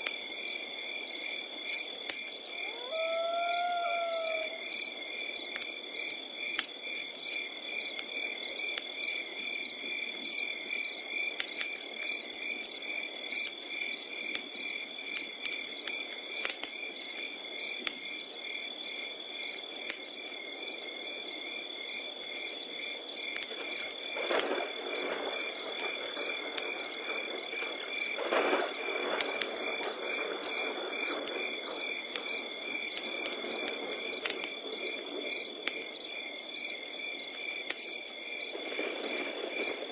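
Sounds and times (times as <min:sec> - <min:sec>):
campfire crackling: 0:00.0 - 0:39.9
crickets chirping: 0:00.0 - 0:39.9
hiss of flames: 0:00.0 - 0:39.9.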